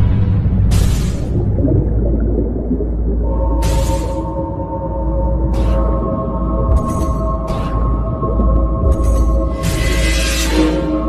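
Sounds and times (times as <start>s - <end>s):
deep low music drone: 0.0s - 11.0s.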